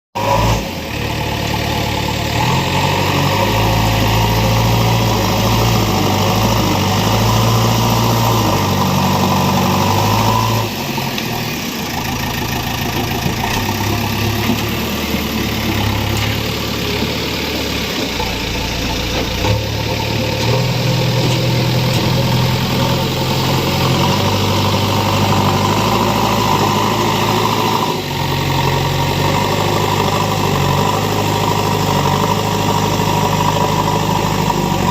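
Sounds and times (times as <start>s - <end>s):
diesel engine revving: 0.2s - 34.9s.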